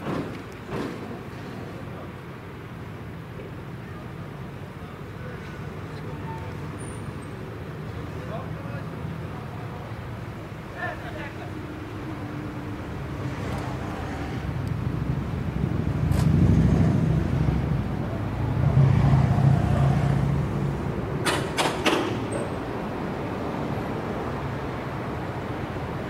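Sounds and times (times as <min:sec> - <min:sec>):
railcar diesel engine hum: 0:00.0 - 0:26.0.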